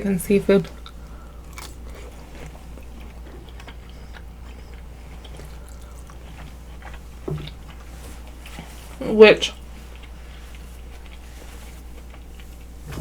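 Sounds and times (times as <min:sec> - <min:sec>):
person chewing food: 0:00.6 - 0:13.0.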